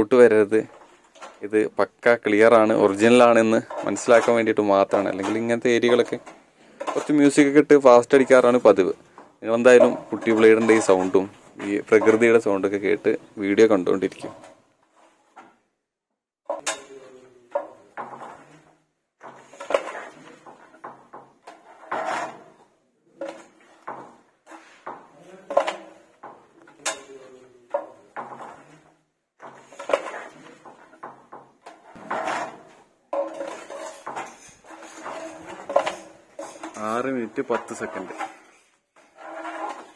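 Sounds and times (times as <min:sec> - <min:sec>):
putty blade scraping wall: 0:02.6 - 0:13.0, 0:16.5 - 0:39.9.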